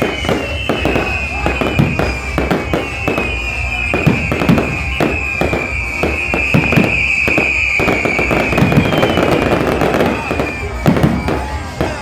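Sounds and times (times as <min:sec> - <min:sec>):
falling whistling tone: 0:00.0 - 0:12.0
fireworks bangs: 0:00.0 - 0:12.0.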